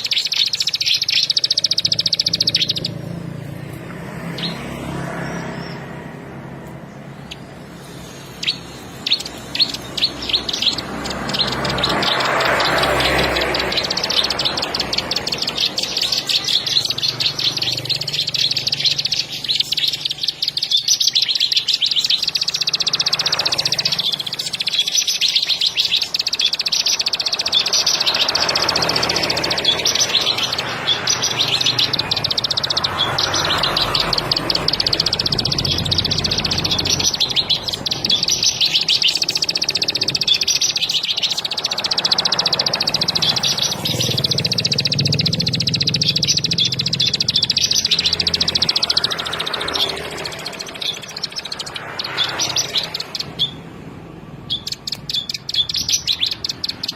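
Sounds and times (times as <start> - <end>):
bird singing high trill: 0.0 - 56.9.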